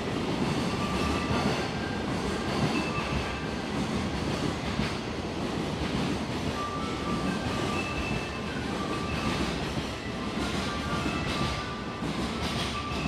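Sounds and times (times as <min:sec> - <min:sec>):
station platform rumble and hum: 0:00.0 - 0:13.0.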